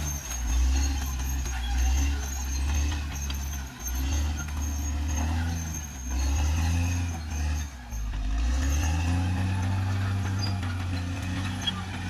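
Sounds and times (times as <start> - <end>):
bulldozer diesel engine under load: 0.0 - 12.0.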